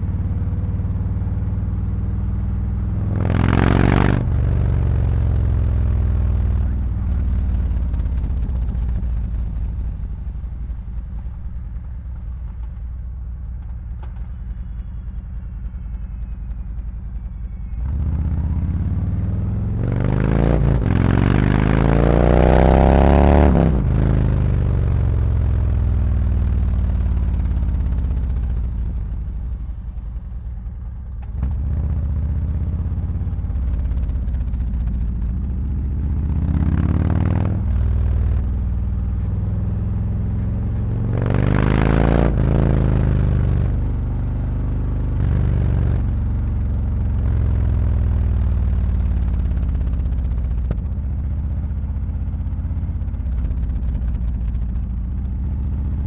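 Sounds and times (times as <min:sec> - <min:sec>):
motorcycle engine revving: 0:00.0 - 0:12.9, 0:13.7 - 0:56.0.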